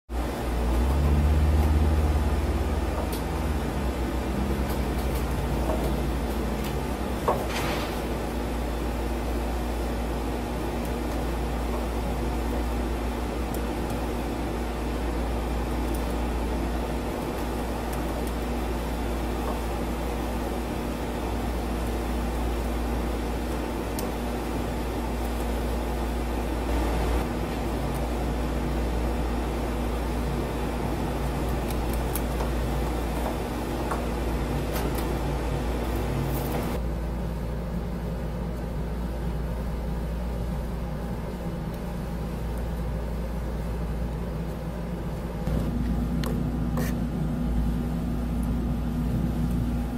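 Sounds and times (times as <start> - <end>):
machine hum and hiss: 0.1 - 49.9.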